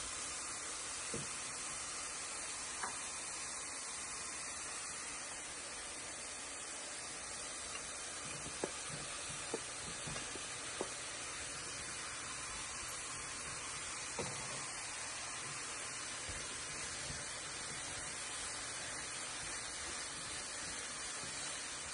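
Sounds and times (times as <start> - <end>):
leeks sizzling in a pan: 0.0 - 21.9.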